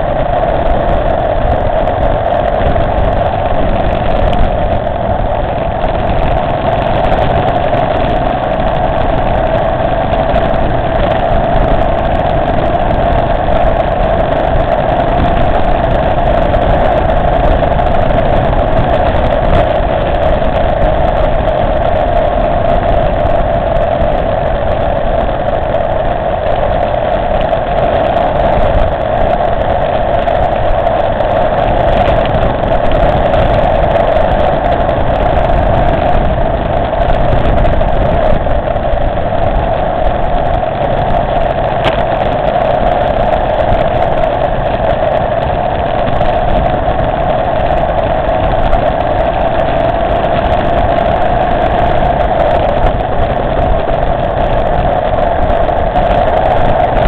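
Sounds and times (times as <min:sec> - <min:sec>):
motorcycle engine cruising: 0:00.0 - 0:57.0
road and wind noise: 0:00.0 - 0:57.0.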